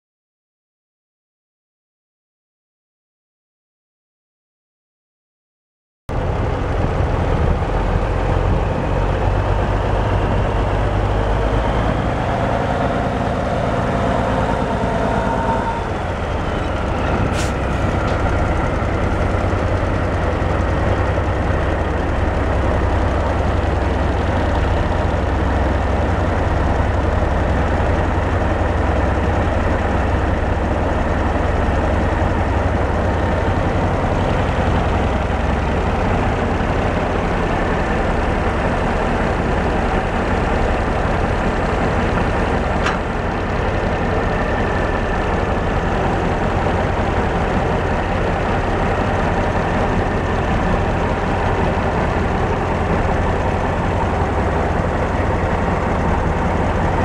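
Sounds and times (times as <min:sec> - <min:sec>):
diesel truck engine idling: 0:06.1 - 0:57.0.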